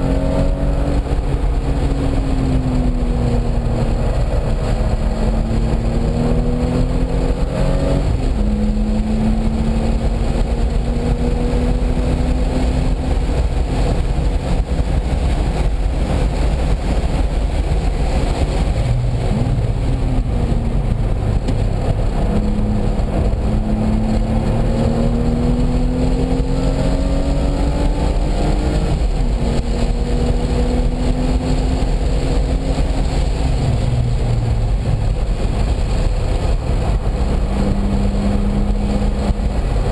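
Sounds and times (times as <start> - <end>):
car engine accelerating hard: 0.0 - 39.9
road noise: 0.0 - 39.9
wind noise: 0.0 - 39.9.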